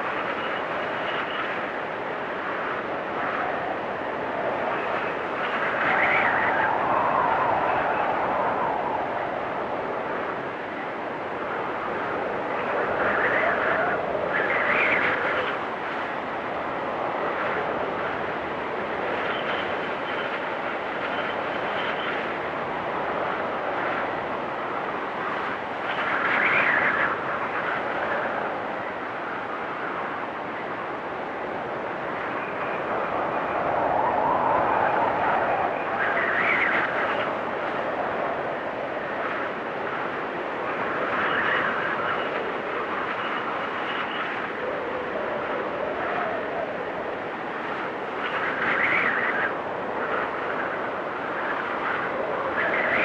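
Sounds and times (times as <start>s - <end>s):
storm wind rushing: 0.0s - 53.0s
whistling wind gusts: 0.0s - 53.0s.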